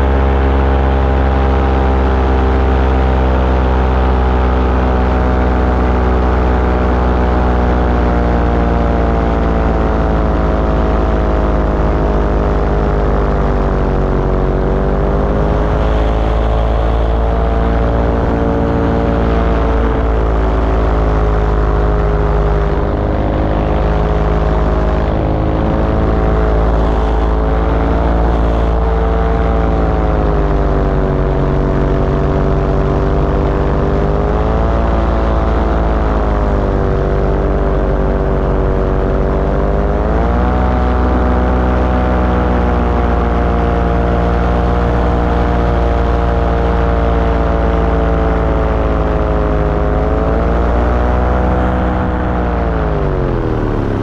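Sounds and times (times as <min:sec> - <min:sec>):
small aircraft engine drone: 0:00.0 - 0:54.0.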